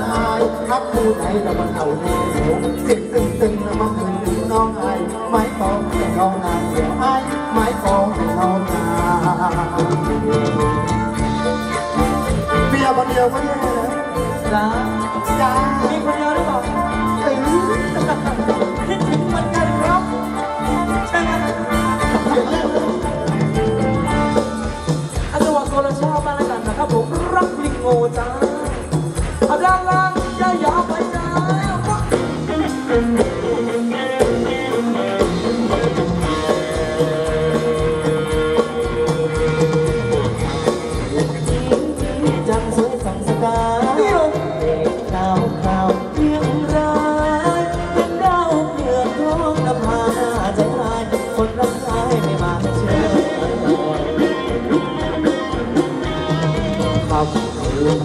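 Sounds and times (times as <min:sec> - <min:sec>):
live dance band playing: 0:00.0 - 0:58.0
percussion beat: 0:00.0 - 0:58.0.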